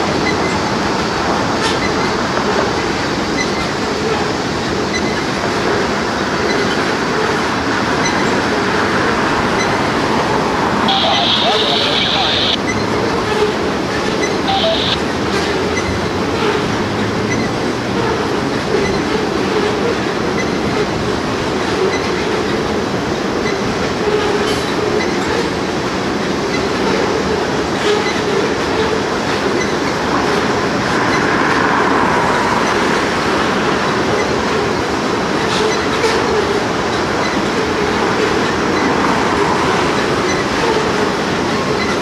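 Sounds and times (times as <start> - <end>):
steel wheels rumbling on rails: 0.0 - 42.0.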